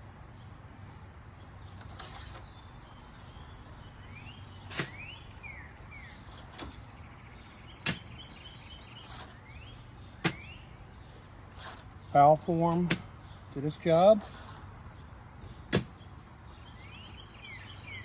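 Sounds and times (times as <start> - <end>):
birds chirping: 0.0 - 18.0
low background noise: 0.0 - 18.0.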